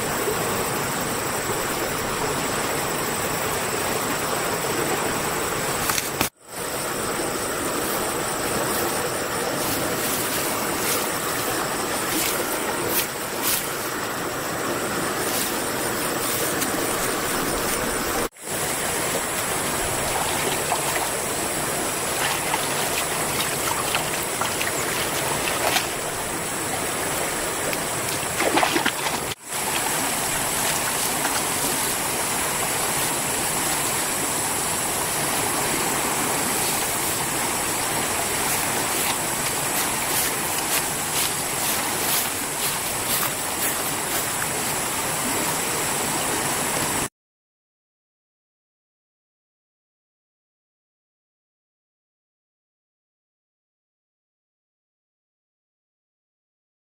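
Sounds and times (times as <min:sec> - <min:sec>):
flowing river water: 0:00.0 - 0:47.1.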